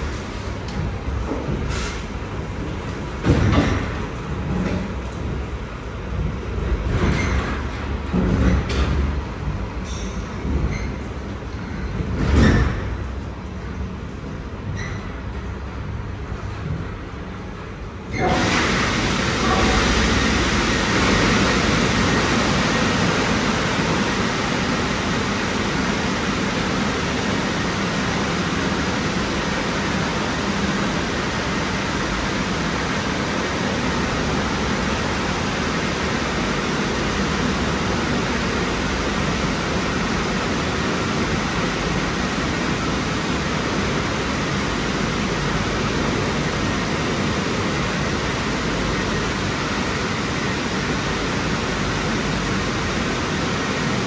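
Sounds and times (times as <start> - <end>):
car wash drying blowers: 0.0 - 14.7, 15.4 - 54.0.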